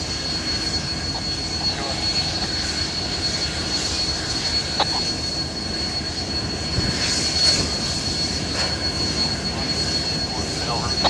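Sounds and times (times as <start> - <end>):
steam locomotive rumble and hiss: 0.0 - 11.0.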